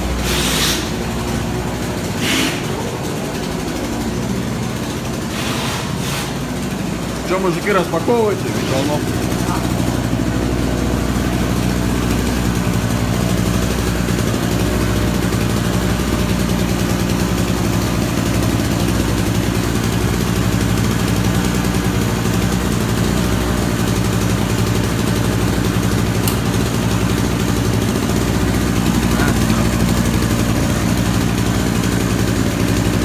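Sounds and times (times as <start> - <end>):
two-stroke generator running: 0.0 - 33.0.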